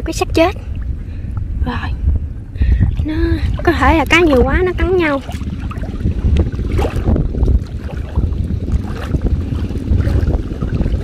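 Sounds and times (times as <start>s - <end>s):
wind buffeting the microphone: 0.0s - 11.0s
water lapping and splashing: 0.1s - 11.0s.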